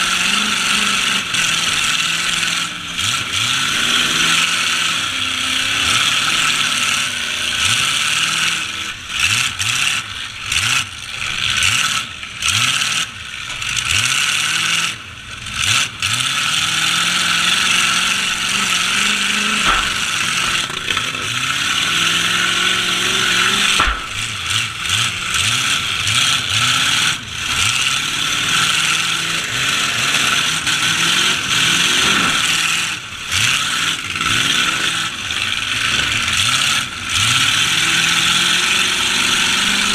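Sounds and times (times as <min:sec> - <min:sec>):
truck engines revving hard: 0:00.0 - 0:39.9.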